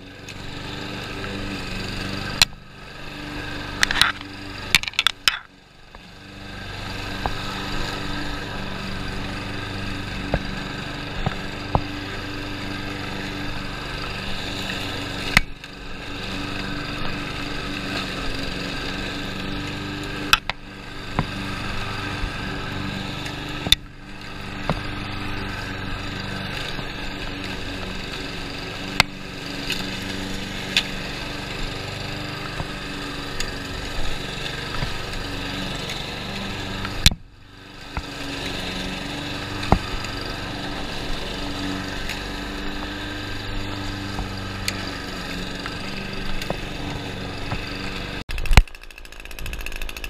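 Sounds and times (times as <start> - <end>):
lawn mower engine running: 0.0 - 50.0.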